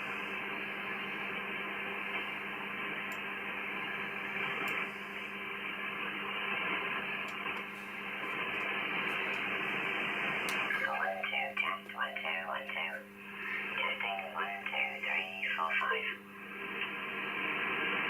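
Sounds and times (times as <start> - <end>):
low steady hum: 0.0 - 18.0
radio static hiss: 0.0 - 18.0.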